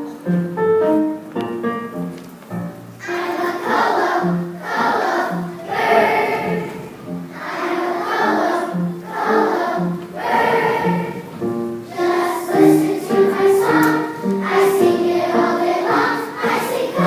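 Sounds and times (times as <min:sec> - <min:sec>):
piano playing: 0:00.0 - 0:17.0
children's choir singing: 0:03.0 - 0:17.0.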